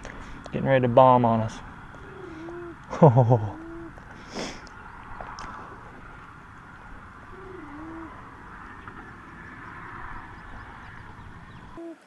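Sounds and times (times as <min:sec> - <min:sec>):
steady low rumble: 0:00.0 - 0:11.8
dove cooing: 0:01.7 - 0:04.2, 0:04.8 - 0:12.0.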